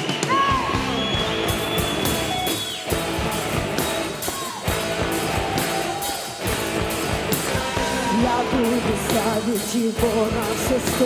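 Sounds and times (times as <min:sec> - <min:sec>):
steady drum beat: 0:00.0 - 0:11.0
guitar chords: 0:00.7 - 0:11.0.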